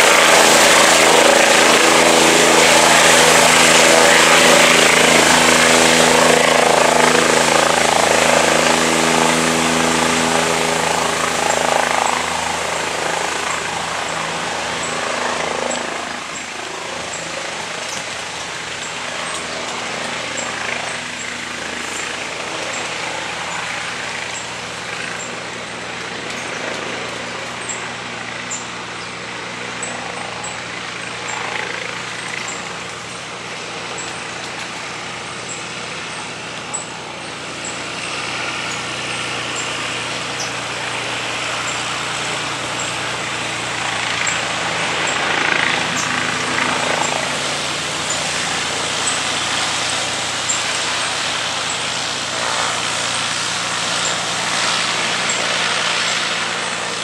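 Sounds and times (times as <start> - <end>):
helicopter rotor and turbine noise: 0.0 - 57.0.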